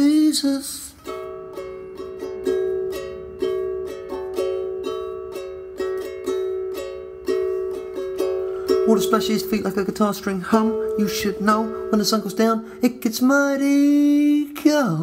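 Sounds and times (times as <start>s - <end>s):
ukulele fingerpicked: 0.0s - 15.0s.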